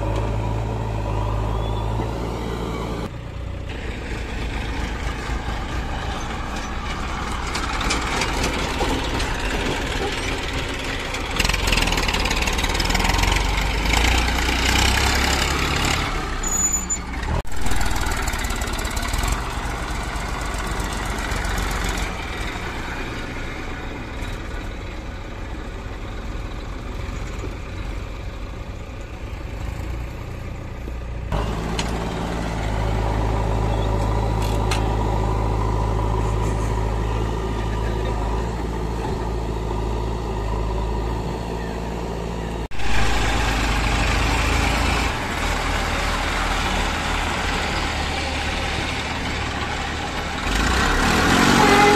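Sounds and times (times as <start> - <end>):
diesel engines running: 0.0 - 51.9.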